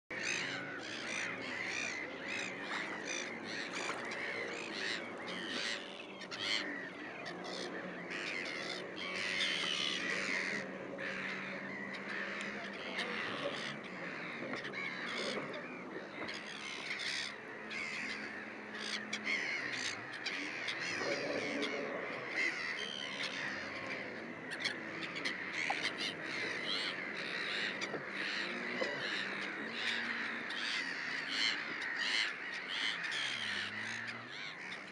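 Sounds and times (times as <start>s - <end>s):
gulls calling: 0.1s - 34.9s.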